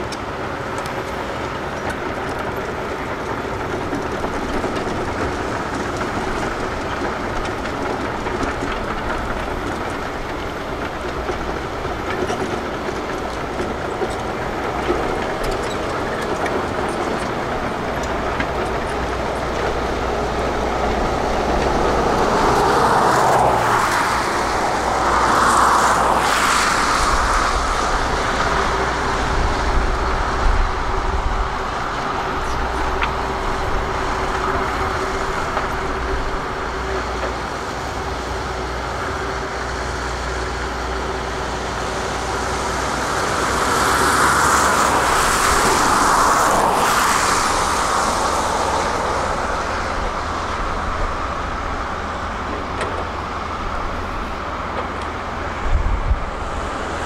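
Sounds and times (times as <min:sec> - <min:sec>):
heavy diesel machinery whining: 0:00.0 - 0:57.0.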